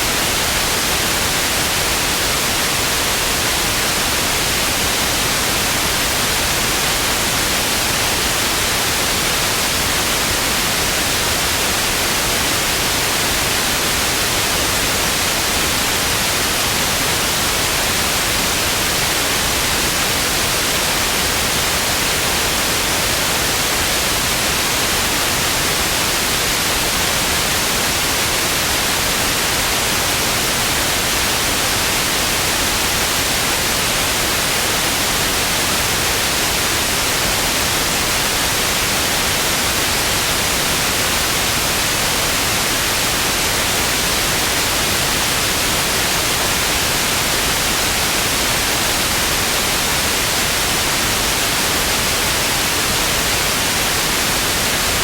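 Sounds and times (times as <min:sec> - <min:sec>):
television static hiss: 0:00.0 - 0:55.0.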